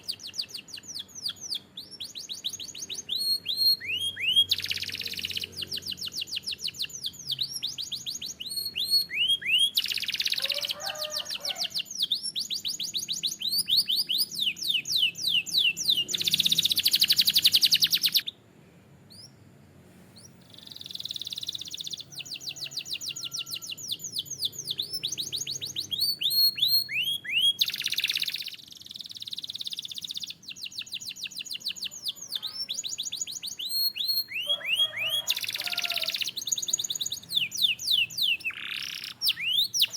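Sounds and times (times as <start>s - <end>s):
canary singing trills: 0.0s - 18.4s, 19.0s - 19.4s, 20.1s - 39.9s.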